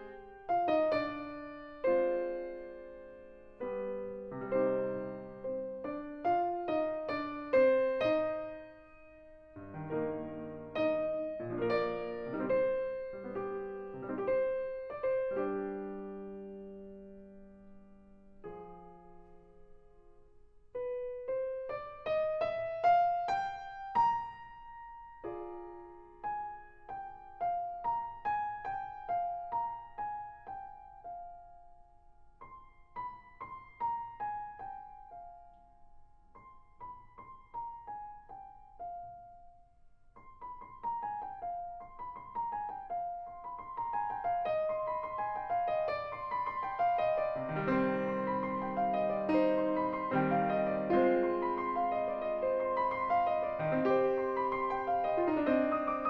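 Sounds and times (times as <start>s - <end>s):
solo piano playing: 0.0s - 56.0s.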